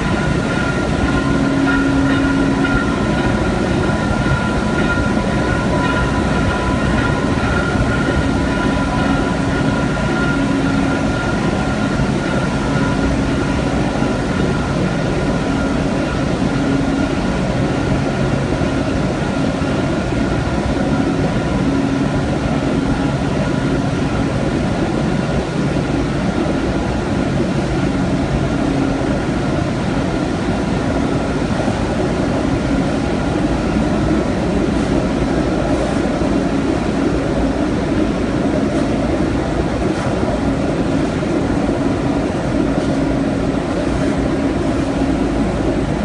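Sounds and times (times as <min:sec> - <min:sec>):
coating machine running: 0:00.0 - 0:46.0
faint high whine: 0:00.0 - 0:46.0.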